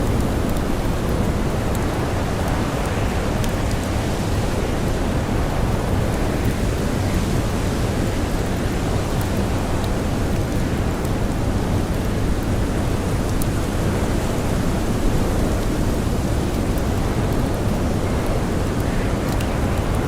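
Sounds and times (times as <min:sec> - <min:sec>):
blizzard wind: 0:00.0 - 0:20.0
campfire crackling: 0:00.0 - 0:20.0.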